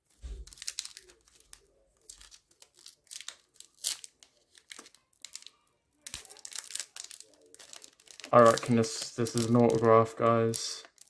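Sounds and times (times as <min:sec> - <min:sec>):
card pack wrapper tearing and crinkling: 0:00.0 - 0:11.0.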